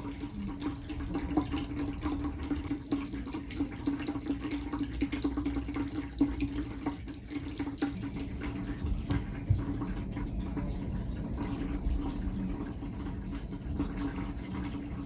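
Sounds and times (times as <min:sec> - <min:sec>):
pump humming: 0:00.0 - 0:15.0
water trickling and splashing: 0:00.0 - 0:15.0.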